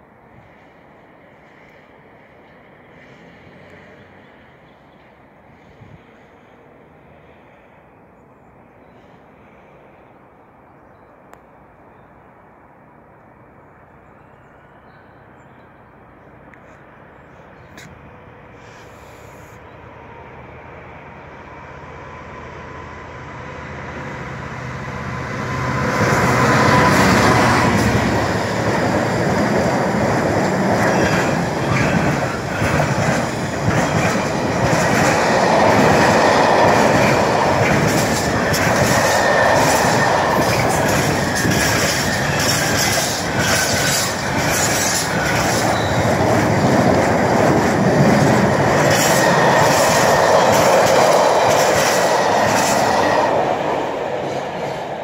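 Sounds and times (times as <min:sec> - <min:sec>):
diesel locomotives passing: 0:00.0 - 0:55.0.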